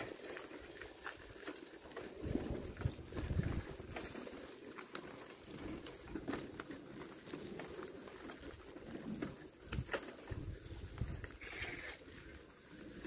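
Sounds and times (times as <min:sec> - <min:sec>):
footsteps on gravel path: 0:00.0 - 0:13.0.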